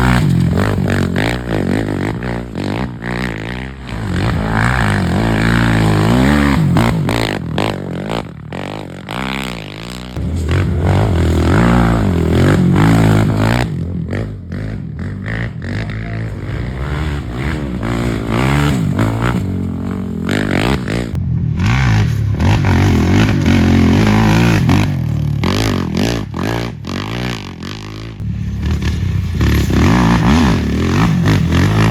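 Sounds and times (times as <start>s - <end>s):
racing engines revving: 0.0s - 26.8s, 28.1s - 31.9s.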